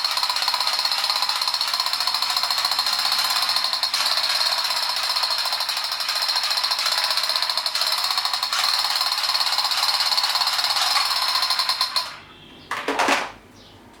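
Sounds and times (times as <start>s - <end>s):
toy machine gun rattling: 0.0s - 12.2s.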